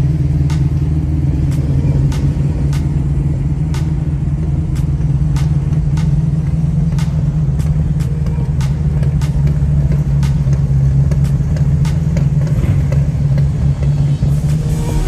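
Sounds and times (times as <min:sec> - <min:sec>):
car engines idling deep rumble: 0:00.0 - 0:15.0.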